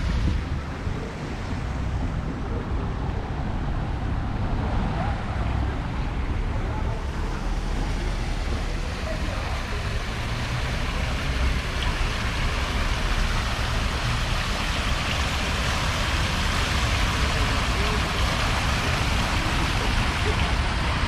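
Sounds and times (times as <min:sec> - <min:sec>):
low street rumble: 0:00.0 - 0:21.0.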